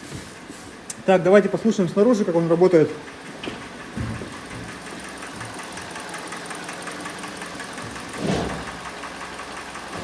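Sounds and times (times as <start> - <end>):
car engine running: 0.3 - 10.0
engine knock: 1.4 - 10.0.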